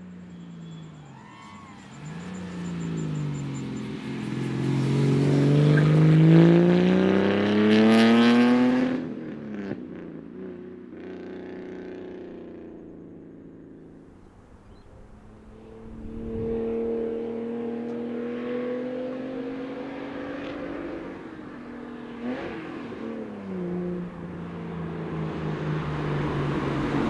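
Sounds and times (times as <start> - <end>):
car engine accelerating: 0.6 - 9.0, 10.4 - 27.0.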